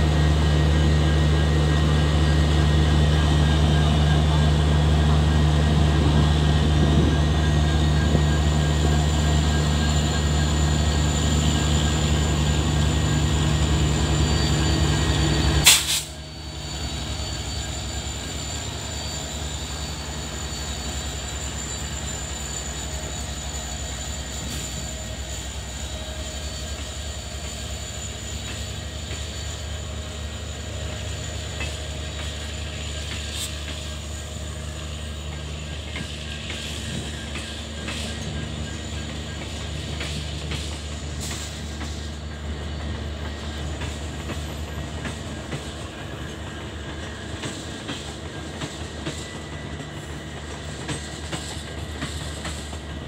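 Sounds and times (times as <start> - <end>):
diesel locomotive engine droning: 0.0 - 53.0
rumble of moving train: 0.0 - 53.0.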